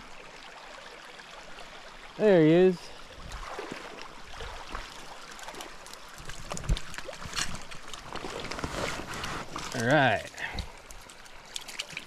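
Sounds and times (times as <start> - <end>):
brook trickling over stones: 0.0 - 12.0.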